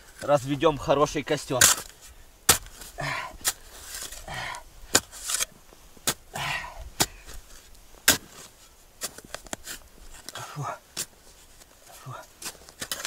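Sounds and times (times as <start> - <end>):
spade chopping frozen soil: 1.4 - 11.2, 12.0 - 13.0.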